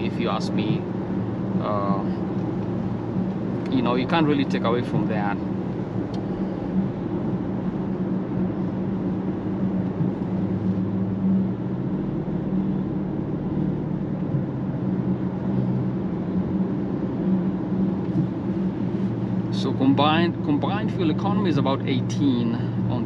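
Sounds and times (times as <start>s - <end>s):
car engine hum: 0.0s - 23.0s.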